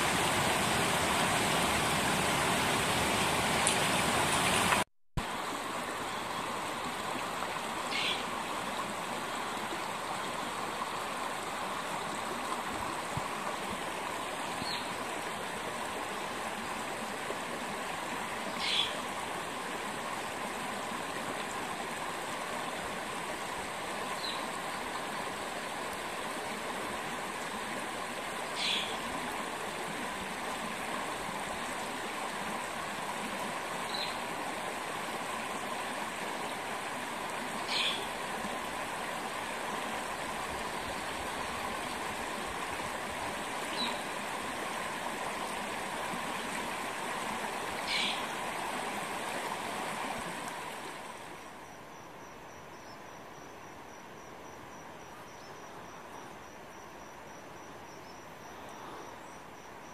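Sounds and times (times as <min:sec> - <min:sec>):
flowing stream water: 0:00.0 - 0:59.9.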